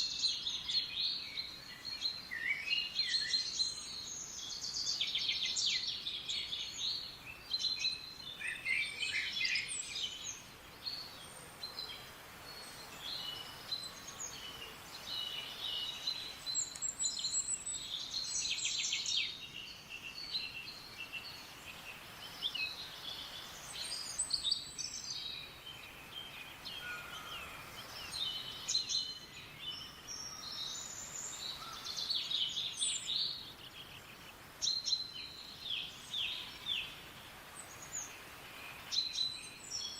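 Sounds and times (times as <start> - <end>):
faint background hiss: 0.0 - 39.9
songbirds chirping and twittering: 0.0 - 39.9.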